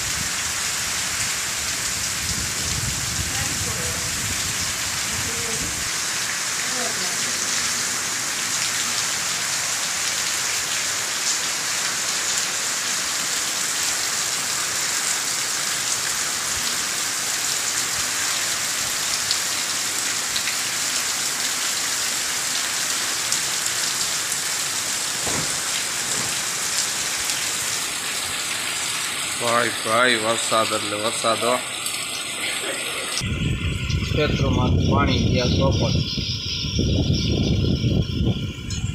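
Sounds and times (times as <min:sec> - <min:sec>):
heavy rain on wet ground: 0:00.0 - 0:38.9.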